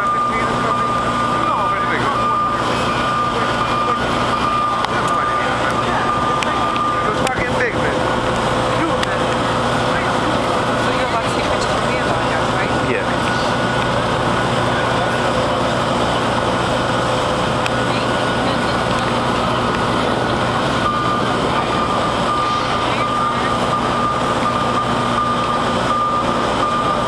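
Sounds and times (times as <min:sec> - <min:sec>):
diesel construction machinery drone: 0:00.0 - 0:27.0
high steady whine: 0:00.0 - 0:27.0.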